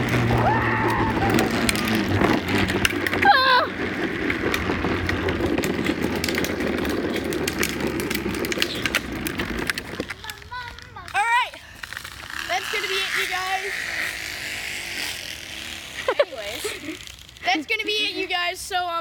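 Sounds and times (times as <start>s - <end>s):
toy truck wheels rumbling on pavement: 0.0s - 19.0s.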